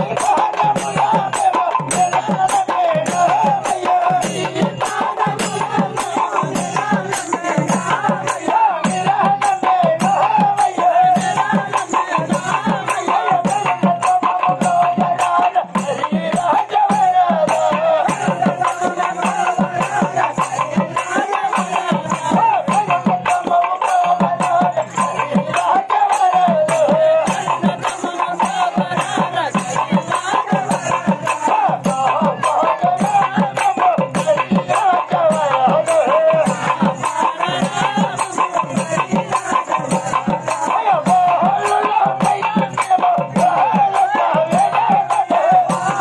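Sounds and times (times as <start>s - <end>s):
hand-beaten barrel drums: 0.0s - 46.0s
rattling percussion: 0.0s - 46.0s.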